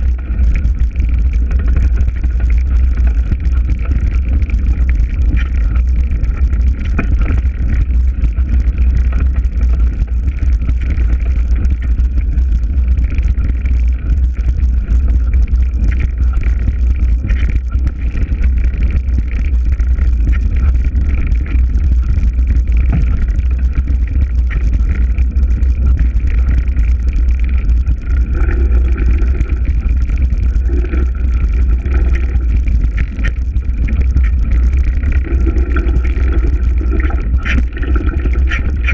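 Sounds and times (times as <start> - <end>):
wind rumbling over microphone: 0.0 - 38.9.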